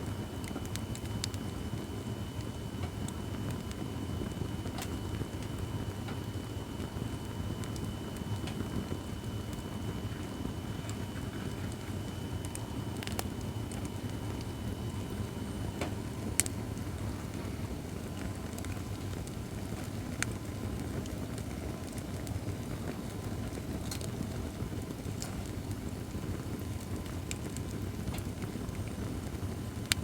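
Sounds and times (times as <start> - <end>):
firewood crackling and popping: 0.0 - 30.0
low rush of flame: 0.0 - 30.0.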